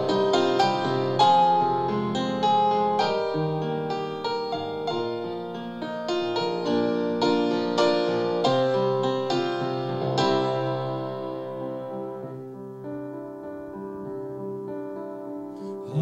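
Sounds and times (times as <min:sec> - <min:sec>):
solo grand piano: 0:00.0 - 0:16.0.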